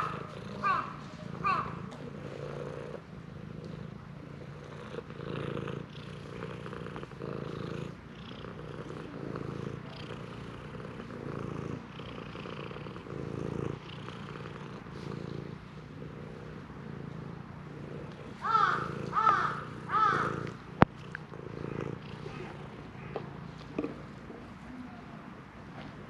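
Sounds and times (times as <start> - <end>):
cat purring: 0.0 - 24.8.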